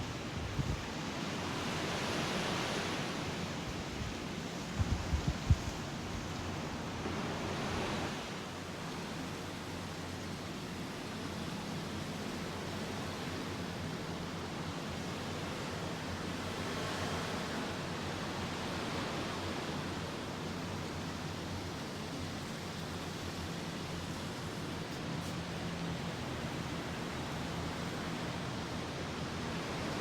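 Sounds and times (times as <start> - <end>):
surf washing ashore: 0.0 - 30.0.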